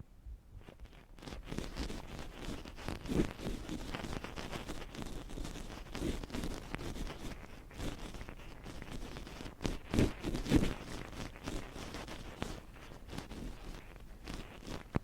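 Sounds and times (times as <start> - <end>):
ear pick scraping on microphone: 0.6 - 15.0.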